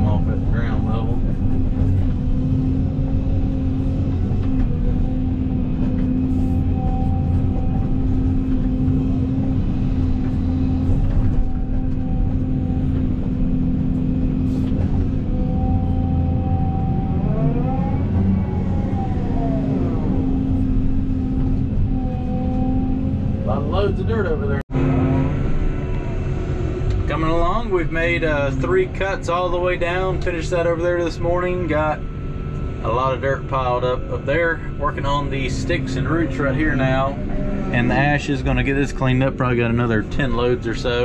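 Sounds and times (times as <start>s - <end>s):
excavator engine and hydraulics: 0.0s - 41.0s.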